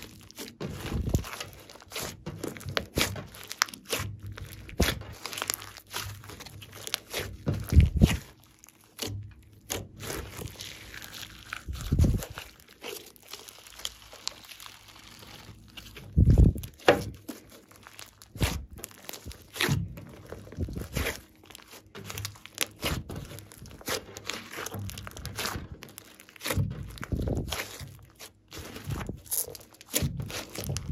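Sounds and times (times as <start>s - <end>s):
slime squishes: 0.0s - 30.9s.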